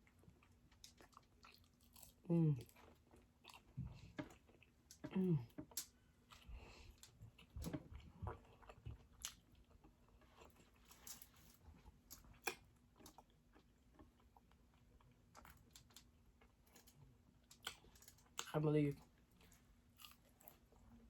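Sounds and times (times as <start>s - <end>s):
chewing and crunching food: 0.0s - 21.0s.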